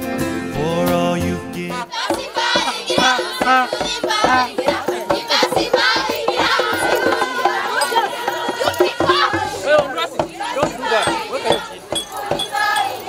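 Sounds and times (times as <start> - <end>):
group singing chant-like song: 0.6 - 13.0
steady beat: 1.7 - 13.0.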